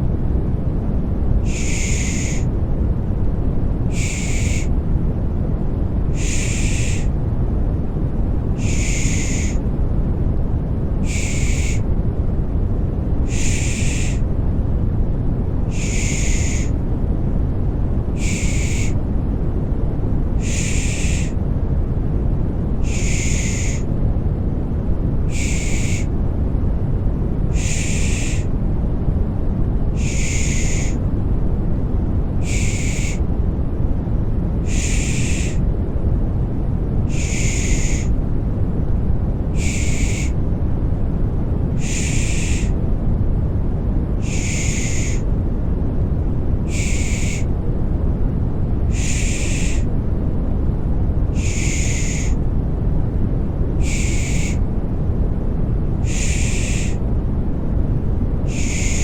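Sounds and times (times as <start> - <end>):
low white noise rumble: 0.0 - 59.0.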